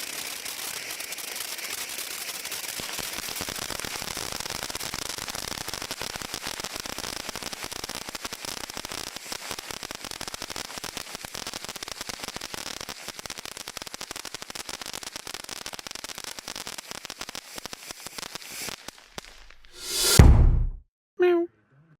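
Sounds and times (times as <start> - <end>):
firework fountain hissing and crackling: 0.0 - 20.2.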